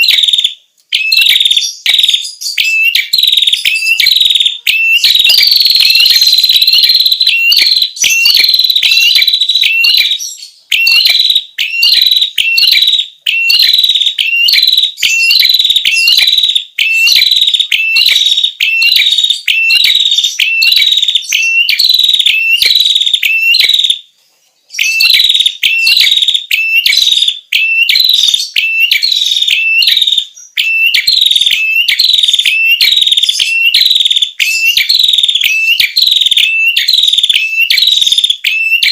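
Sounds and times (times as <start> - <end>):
high-pitched bird song: 0.0 - 38.9.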